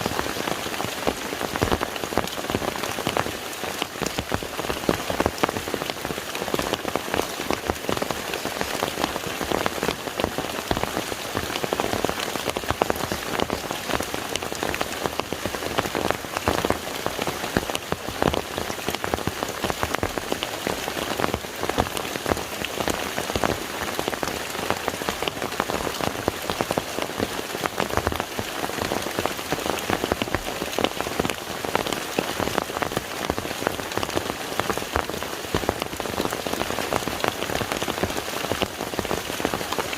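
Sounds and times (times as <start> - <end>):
rain splashing on water: 0.0 - 39.9.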